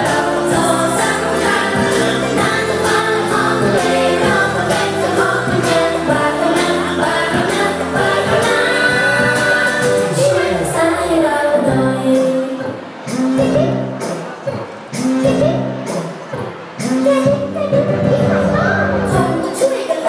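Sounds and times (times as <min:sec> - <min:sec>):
song through sound system: 0:00.0 - 0:20.0.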